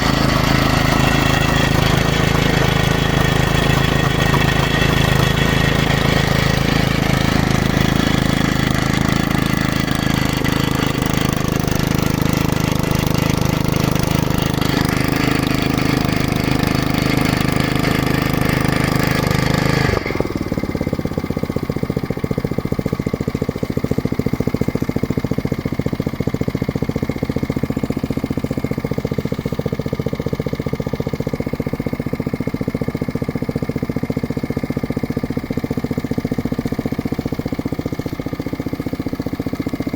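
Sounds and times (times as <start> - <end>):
drilling rig machine noise: 0.0 - 39.9
engine running with rapid pulsing: 0.0 - 39.9.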